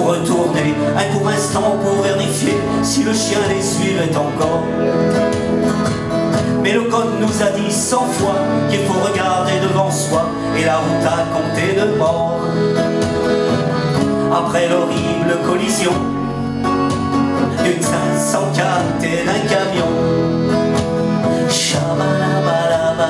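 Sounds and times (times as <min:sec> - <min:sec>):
accordion: 0:00.0 - 0:23.0
double bass: 0:00.0 - 0:23.0
keyboard: 0:00.0 - 0:23.0
plucked guitar: 0:00.0 - 0:23.0.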